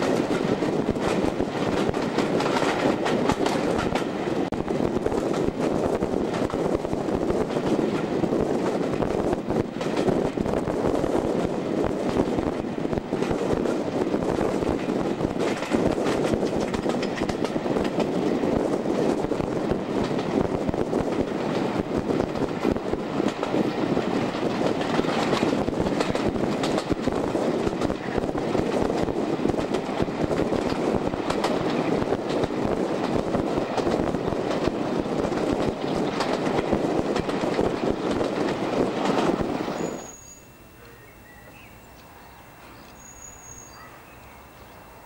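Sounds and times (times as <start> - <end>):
diesel locomotive rumbling: 0.0 - 45.0.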